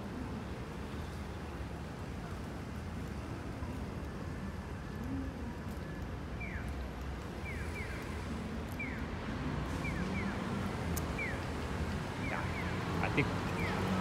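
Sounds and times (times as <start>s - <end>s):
low traffic noise: 0.0s - 14.0s.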